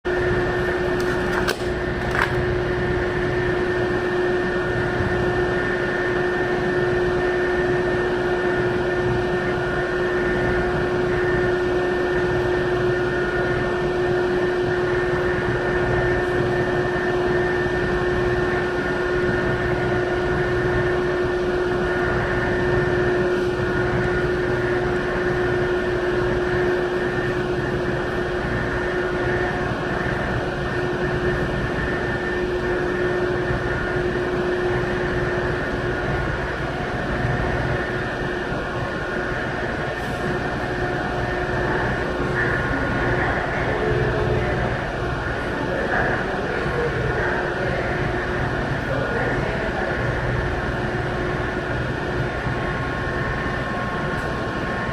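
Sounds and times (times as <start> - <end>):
ship engines droning: 0.1 - 54.9.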